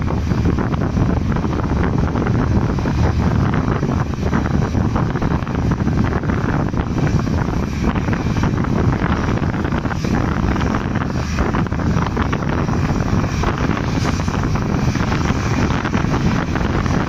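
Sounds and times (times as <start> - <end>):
train wheels rattling on rails: 0.0 - 17.0
wind rush: 0.0 - 17.0.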